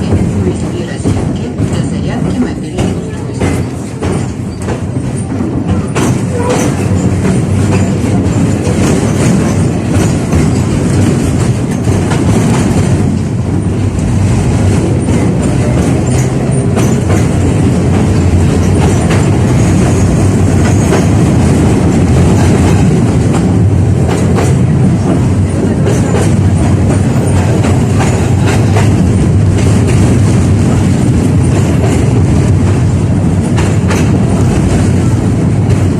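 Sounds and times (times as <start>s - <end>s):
tram wheels rumbling: 0.0s - 35.9s
wheels clacking over rail joints: 0.0s - 35.9s.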